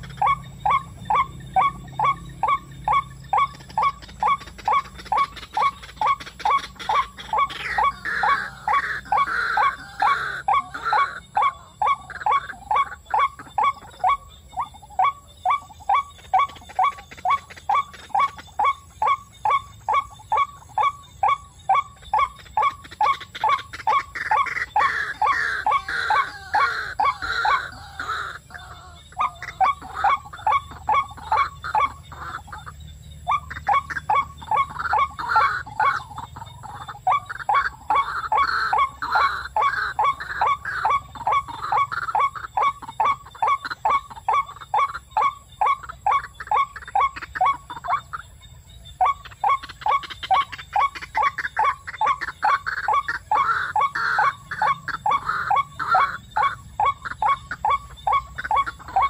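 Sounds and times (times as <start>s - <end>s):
bird harsh repeated calls: 0.0s - 59.0s
higher wavering bird calls: 0.0s - 59.0s.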